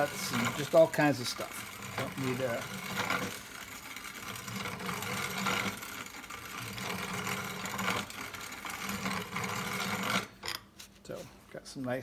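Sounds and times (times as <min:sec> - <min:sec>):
hand-cranked grain grinder grinding: 0:00.0 - 0:10.7.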